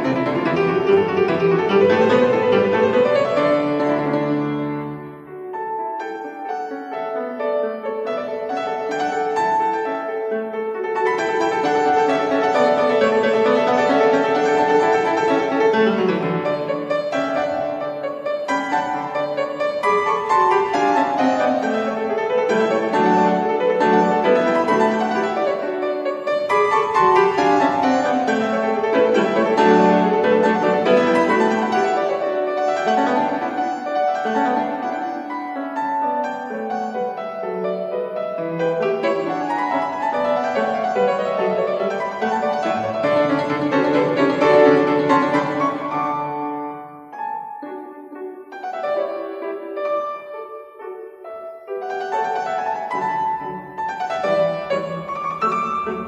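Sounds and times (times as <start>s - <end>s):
solo grand piano piece: 0.0s - 56.0s.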